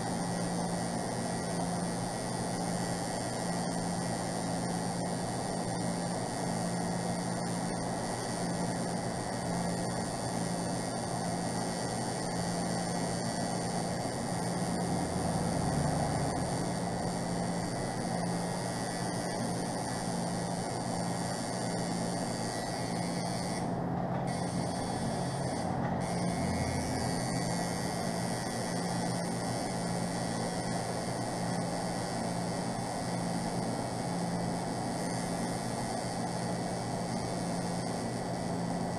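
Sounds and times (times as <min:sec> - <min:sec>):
tattoo machine humming: 0:00.0 - 0:38.9.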